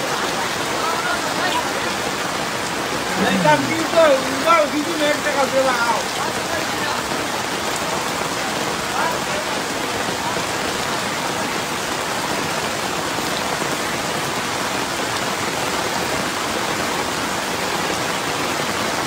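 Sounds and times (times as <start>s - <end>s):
heavy rain pouring on street: 0.0s - 19.0s.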